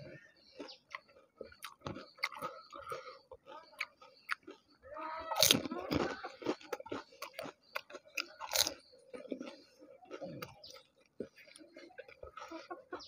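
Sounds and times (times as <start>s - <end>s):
crisp shell crunching while chewed: 0.4s - 13.0s.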